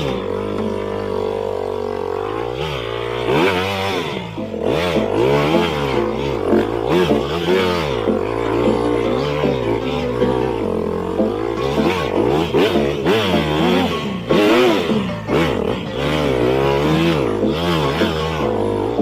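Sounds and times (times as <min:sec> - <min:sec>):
off-road motorcycle engine revving: 0:00.0 - 0:19.0.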